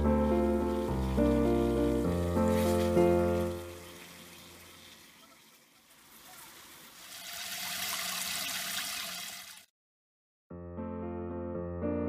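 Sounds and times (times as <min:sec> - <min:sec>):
running water splashing: 0:00.0 - 0:09.7.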